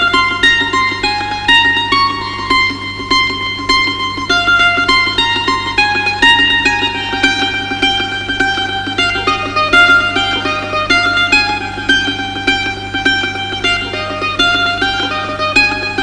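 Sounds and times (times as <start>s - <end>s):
plucked string melody: 0.0s - 16.0s.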